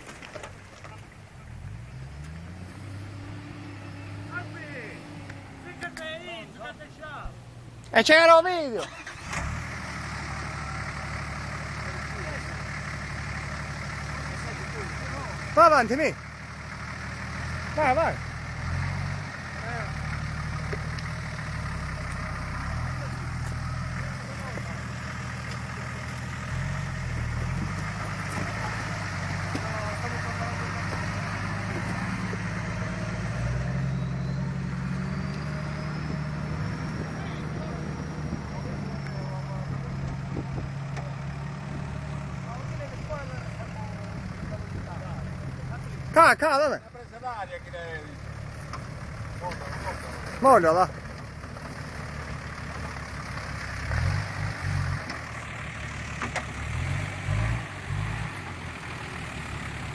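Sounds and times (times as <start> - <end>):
off-road engine running at low revs: 0.8 - 7.9, 8.9 - 59.9.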